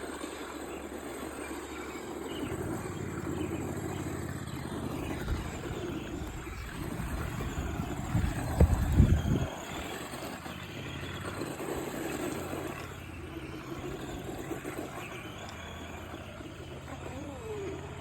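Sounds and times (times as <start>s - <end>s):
rc car motor whining: 0.0s - 18.0s.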